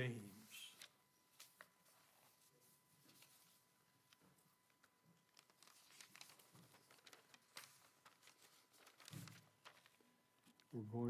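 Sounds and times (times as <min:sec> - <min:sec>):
pages being turned: 0:00.4 - 0:10.7.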